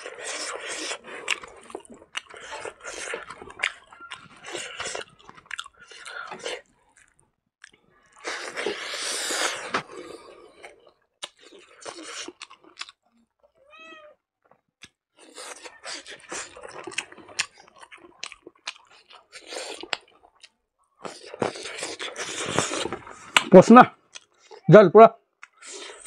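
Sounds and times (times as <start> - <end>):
chewing and lip-smacking: 0.0 - 13.6, 14.4 - 23.5, 24.1 - 24.6, 25.4 - 26.0.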